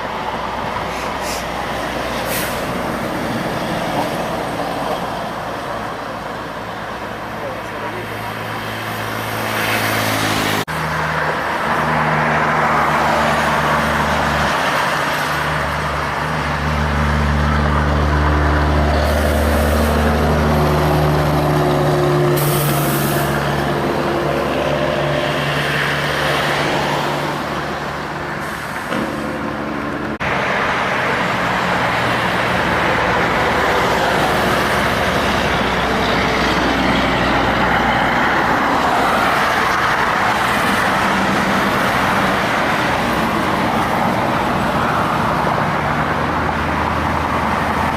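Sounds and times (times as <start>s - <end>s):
diesel trucks passing: 0.0s - 47.9s.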